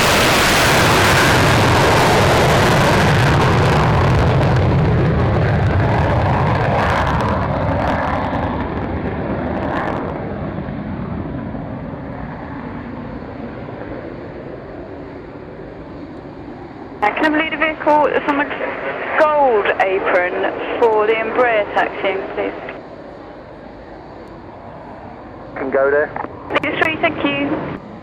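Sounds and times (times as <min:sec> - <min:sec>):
jet aircraft taking off: 0:00.0 - 0:28.0.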